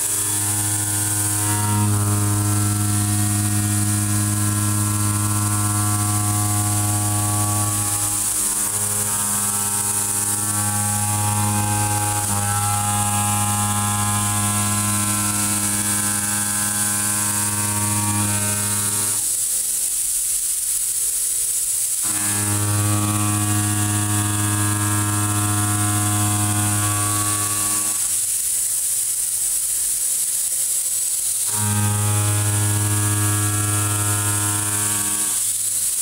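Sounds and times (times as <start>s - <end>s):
milling machine cutting steel: 0.0s - 19.7s, 21.9s - 28.8s, 30.8s - 36.0s.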